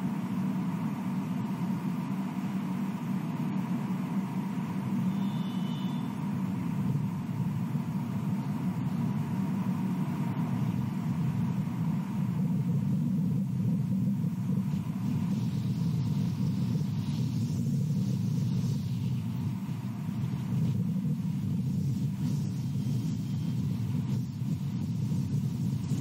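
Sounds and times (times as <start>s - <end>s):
faint high hiss: 0.0s - 26.0s
low background rumble: 0.0s - 26.0s.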